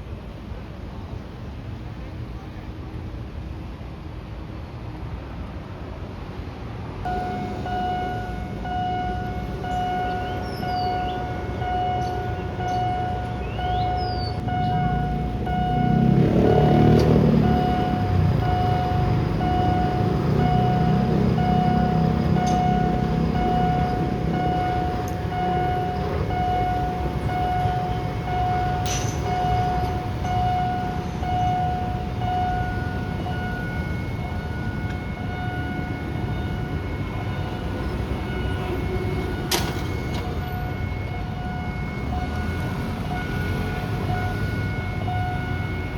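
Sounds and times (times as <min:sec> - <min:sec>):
train rumbling: 0:00.0 - 0:45.9
level crossing warning tone: 0:07.0 - 0:45.9.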